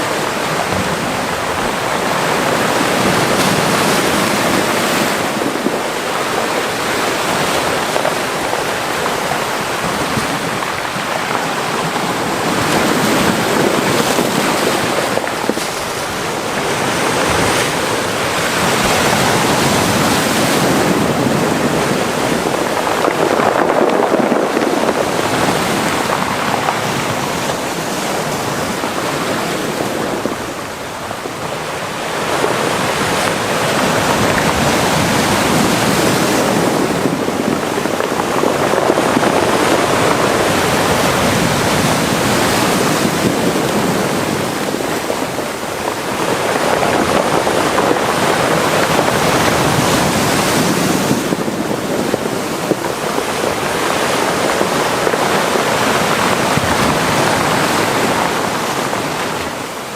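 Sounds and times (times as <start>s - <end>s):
sea waves washing into a cove: 0.0s - 59.9s.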